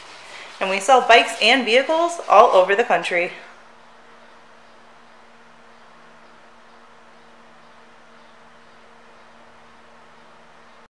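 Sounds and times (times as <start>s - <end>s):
faint low hum: 0.0s - 10.9s
steady hiss: 0.0s - 10.9s.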